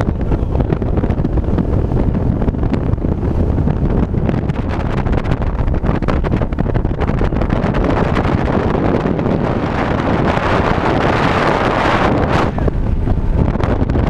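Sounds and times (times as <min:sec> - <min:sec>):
outboard motor running: 0:00.0 - 0:14.0
wind buffeting microphone: 0:00.0 - 0:14.0.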